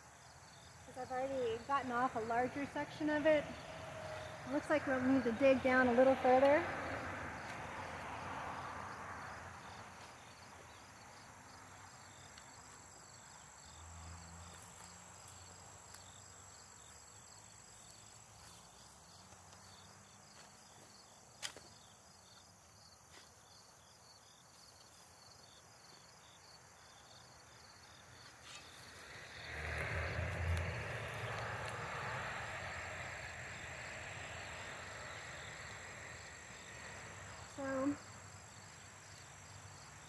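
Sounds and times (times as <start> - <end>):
insects chirping faintly: 0.0 - 40.0.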